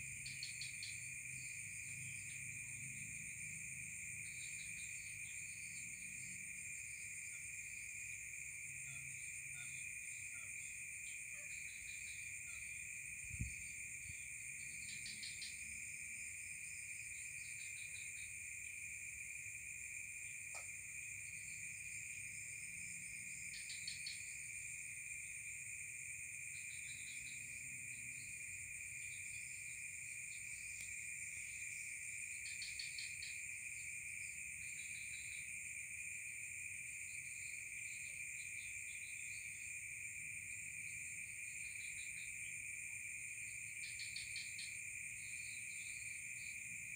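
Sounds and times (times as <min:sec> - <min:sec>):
crickets and insects trilling: 0:00.0 - 0:46.9.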